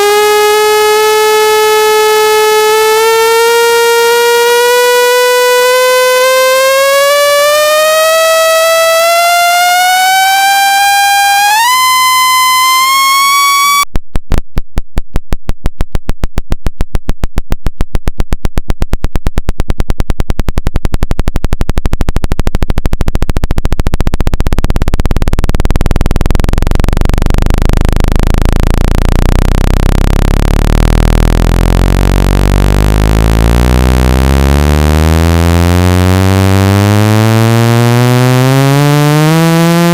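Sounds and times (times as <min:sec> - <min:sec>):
buzzy electronic tone: 0:00.0 - 0:13.8, 0:21.4 - 0:39.9
rapid electronic pulses: 0:00.0 - 0:13.8, 0:18.0 - 0:39.9.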